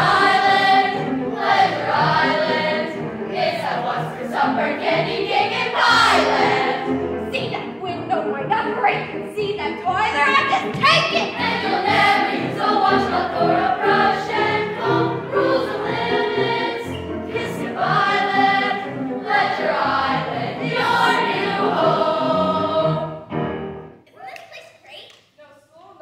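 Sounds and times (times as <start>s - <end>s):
children's choir singing: 0.0s - 23.4s
musical accompaniment: 0.0s - 24.0s.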